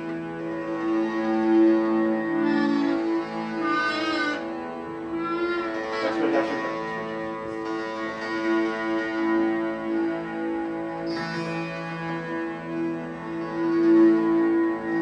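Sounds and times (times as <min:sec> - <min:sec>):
strummed strings drone: 0:00.0 - 0:15.0.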